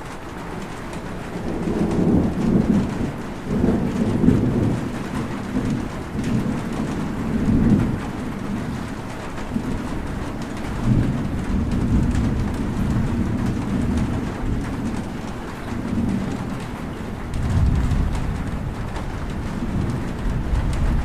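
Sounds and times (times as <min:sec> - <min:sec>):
steady rain: 0:00.0 - 0:21.0
rolling thunder: 0:00.6 - 0:21.0.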